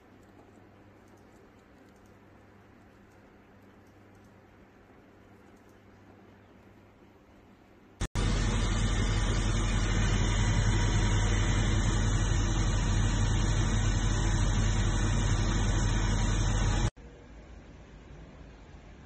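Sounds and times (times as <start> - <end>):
low hum: 0.1 - 19.0.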